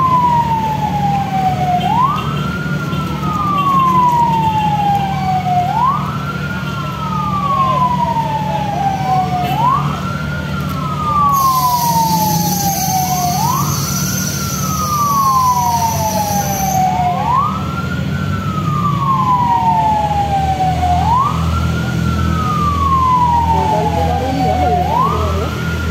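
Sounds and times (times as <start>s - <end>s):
fire truck siren wailing: 0.0s - 25.9s.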